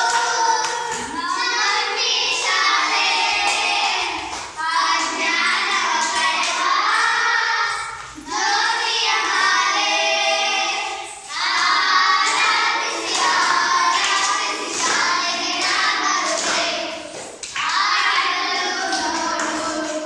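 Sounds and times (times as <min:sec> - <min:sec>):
children singing in unison: 0:00.0 - 0:20.0.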